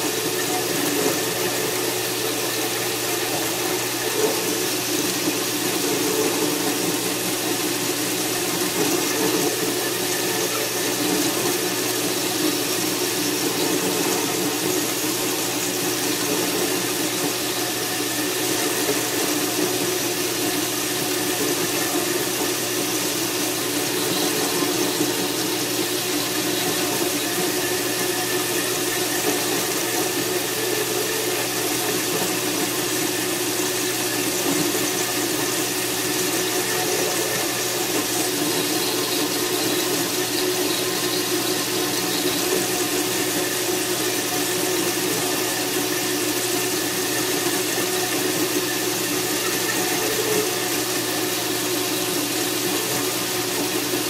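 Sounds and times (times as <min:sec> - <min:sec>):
electric machine humming: 0:00.0 - 0:54.0.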